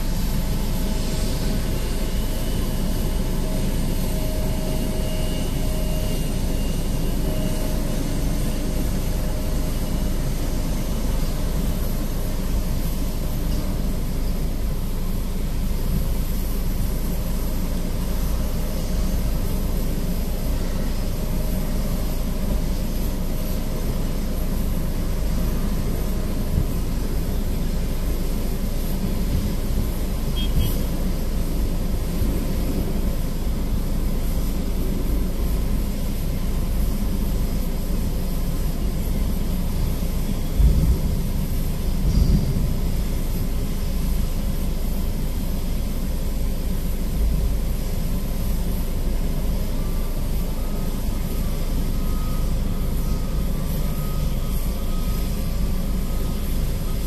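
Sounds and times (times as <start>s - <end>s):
muffled jet aircraft drone: 0.0s - 57.0s.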